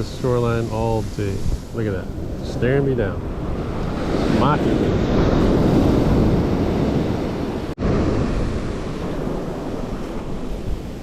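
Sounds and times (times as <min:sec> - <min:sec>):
ocean surf washing onto beach: 0:00.0 - 0:11.0
wind buffeting microphone: 0:00.0 - 0:11.0.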